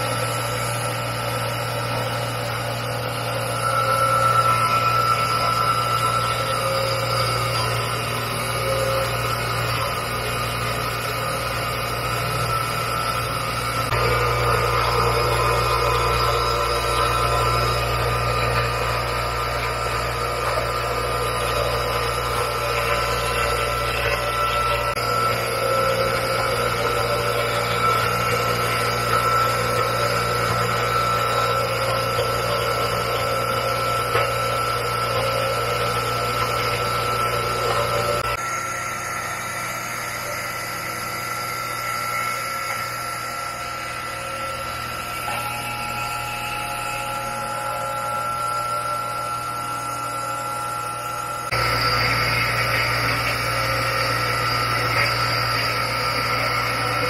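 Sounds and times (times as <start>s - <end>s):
electric motor whining and humming: 0.0s - 57.0s.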